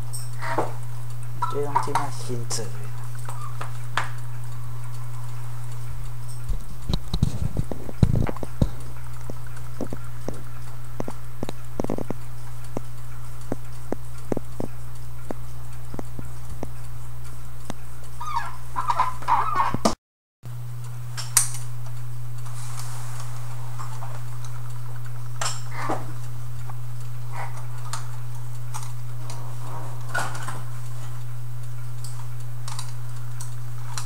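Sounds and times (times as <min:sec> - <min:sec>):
clock ticking: 0:00.0 - 0:19.8, 0:23.2 - 0:34.0
steady low hum: 0:00.0 - 0:34.0.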